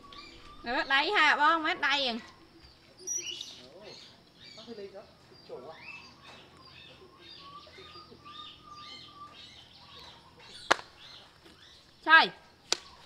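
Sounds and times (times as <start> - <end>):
high chirping calls: 0.0 - 13.0.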